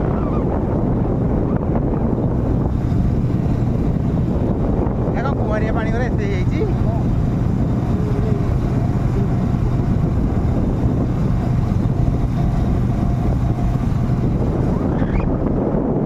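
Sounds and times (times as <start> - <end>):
vehicle engine humming: 0.0 - 16.0
wind buffeting microphone: 0.0 - 16.0.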